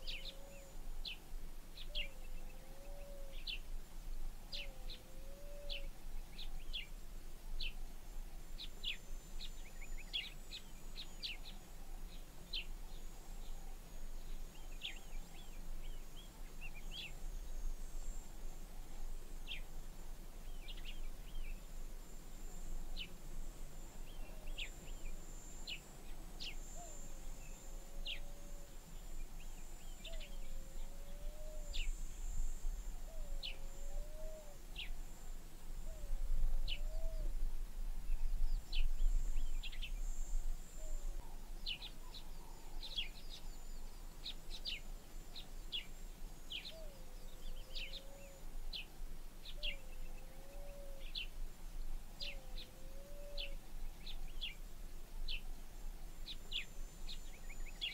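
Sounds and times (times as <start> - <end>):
faint high hum: 0.0 - 57.9.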